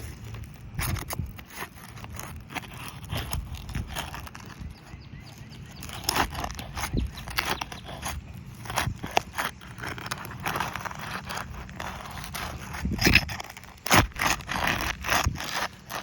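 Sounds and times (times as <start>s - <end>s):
roof shingle scraping and crackling: 0.0s - 16.0s.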